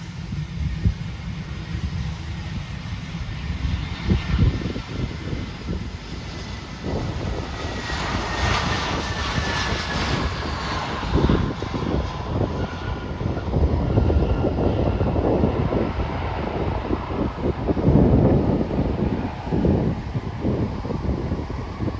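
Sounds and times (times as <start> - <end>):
jet engines rumbling and whining: 0.0 - 21.9
wind gusts on microphone: 0.0 - 21.9.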